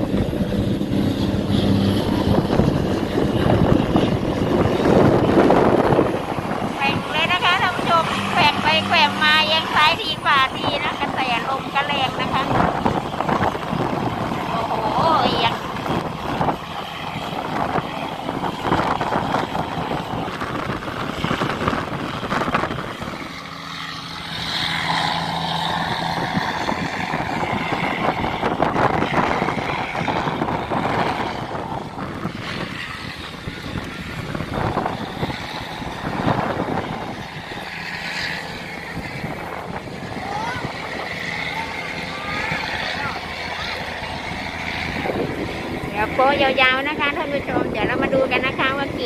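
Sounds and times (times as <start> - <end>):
diesel engine running: 0.0 - 49.0
wind noise on microphone: 0.0 - 49.0.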